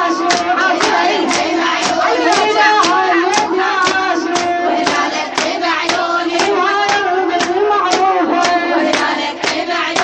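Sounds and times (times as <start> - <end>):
voices joining in chanting: 0.0 - 10.0
woman chanting: 0.0 - 10.0.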